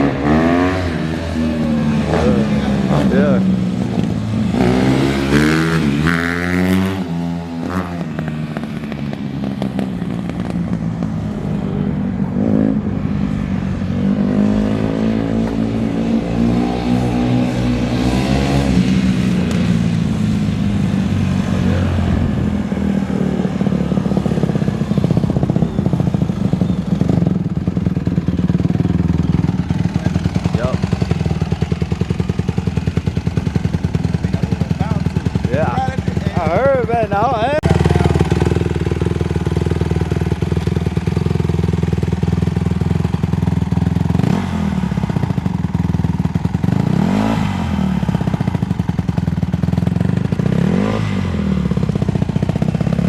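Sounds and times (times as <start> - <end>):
dirt bike engine revving: 0.0 - 10.8, 14.0 - 27.4, 28.1 - 53.0.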